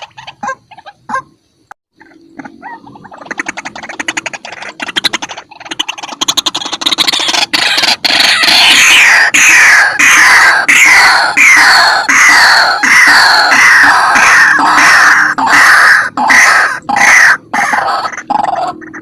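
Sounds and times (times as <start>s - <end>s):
waterhen calling: 0.0s - 1.4s, 2.0s - 19.0s.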